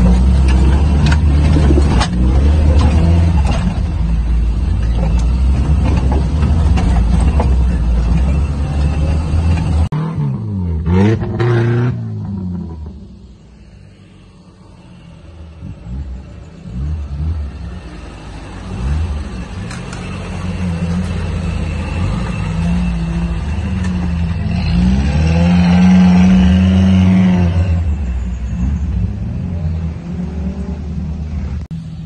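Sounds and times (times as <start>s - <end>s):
engine revving: 0.0s - 31.7s.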